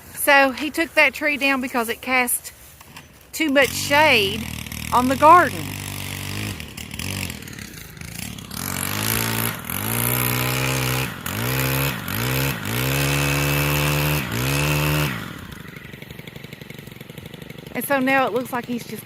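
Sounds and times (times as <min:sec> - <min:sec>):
chainsaw engine revving: 0:02.8 - 0:19.0.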